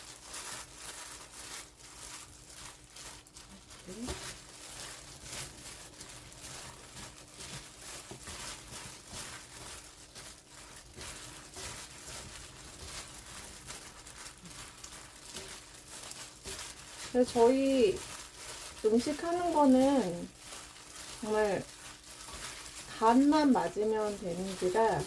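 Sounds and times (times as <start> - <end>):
gloved hands rustling cabbage leaves: 0.0 - 25.0.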